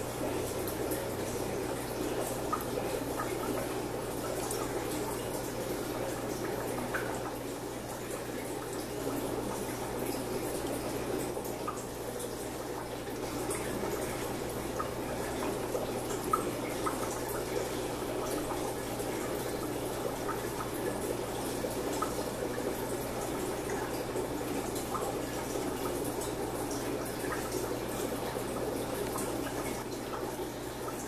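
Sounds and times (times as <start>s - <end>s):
small water drips: 0.0s - 31.0s
water trickling and bubbling: 0.0s - 31.0s.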